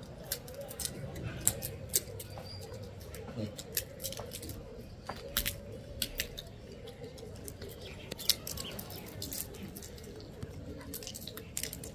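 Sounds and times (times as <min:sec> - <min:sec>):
monkeys chewing: 0:00.0 - 0:11.9
monkeys cracking peanut shells: 0:00.0 - 0:11.9.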